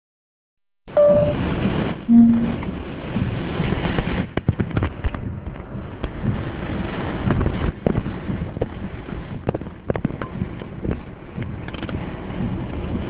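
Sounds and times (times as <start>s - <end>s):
rain on car windscreen: 1.0s - 13.0s.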